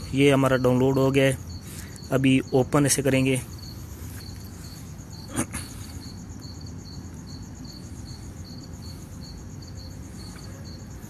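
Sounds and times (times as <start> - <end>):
cricket chirping: 0.0 - 11.0
low background hum: 0.0 - 11.0.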